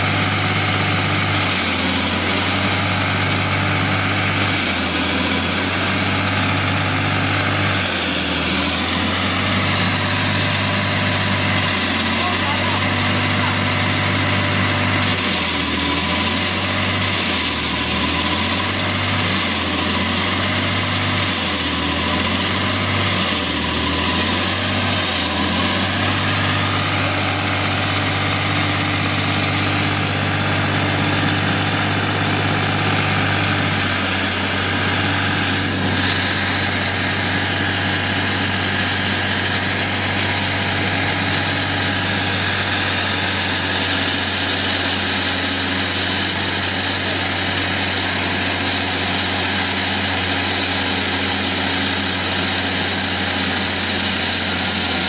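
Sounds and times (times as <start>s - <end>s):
concrete saw diesel engine running: 0.0s - 55.0s.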